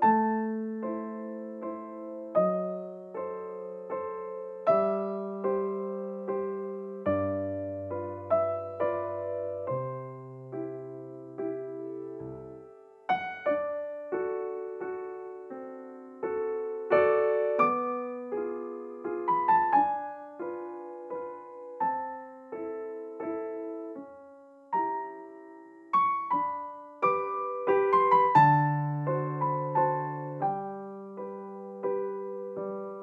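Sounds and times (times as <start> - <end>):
calm piano music: 0.0 - 33.0.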